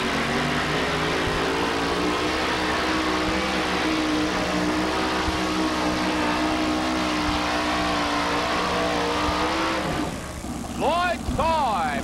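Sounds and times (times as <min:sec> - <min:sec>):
pulling truck engine at high revs: 0:00.0 - 0:12.0.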